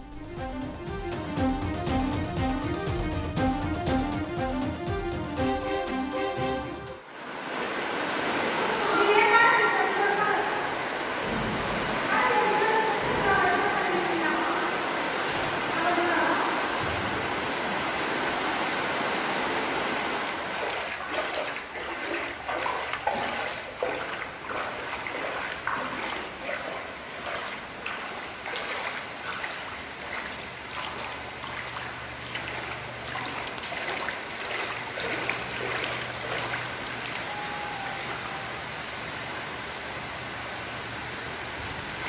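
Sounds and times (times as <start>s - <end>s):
floodwater rushing across floor: 0.0s - 42.0s
water splashing: 0.0s - 42.0s.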